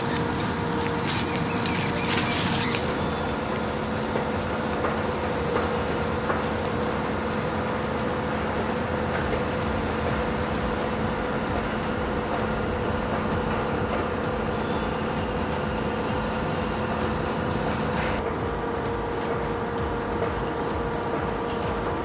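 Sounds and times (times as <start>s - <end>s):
machine drone: 0.0s - 22.0s.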